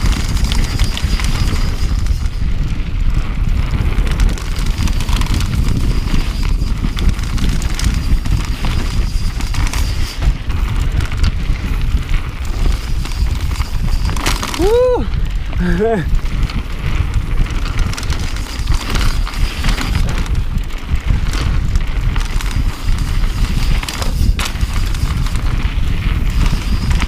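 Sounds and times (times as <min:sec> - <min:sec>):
bike clattering and rattling: 0:00.0 - 0:27.0
wind buffeting microphone: 0:00.0 - 0:27.0.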